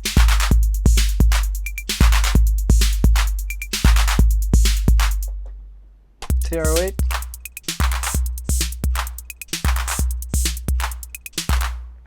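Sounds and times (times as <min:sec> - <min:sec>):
hi-hats ticking: 0:00.0 - 0:05.3, 0:06.3 - 0:11.7
deep bass drum: 0:00.0 - 0:05.4, 0:06.3 - 0:11.8.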